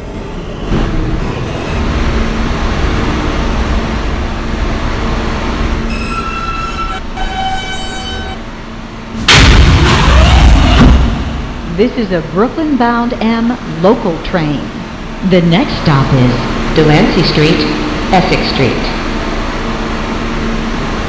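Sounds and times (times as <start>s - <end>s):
high whining tones: 0.0s - 20.7s
subway train rumbling: 0.0s - 21.0s.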